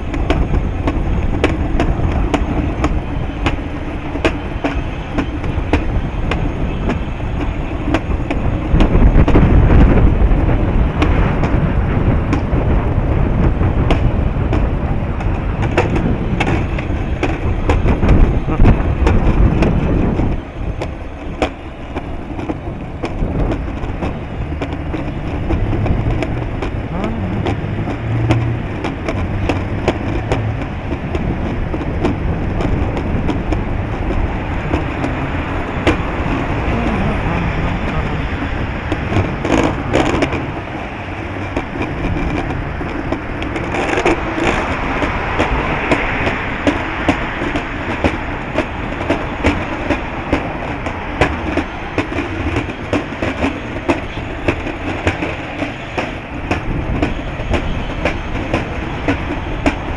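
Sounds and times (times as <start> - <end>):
strong wind buffeting microphone: 0.0 - 59.9.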